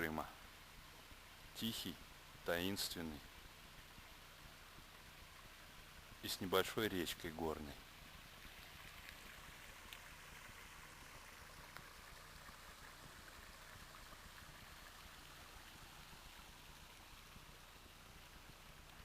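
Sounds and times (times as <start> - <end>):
small stream rushing: 0.0 - 19.0.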